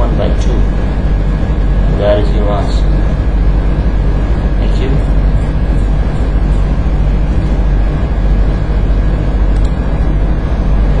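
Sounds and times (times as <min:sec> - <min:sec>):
constant rushing noise: 0:00.0 - 0:11.0
steady low hum: 0:00.0 - 0:11.0.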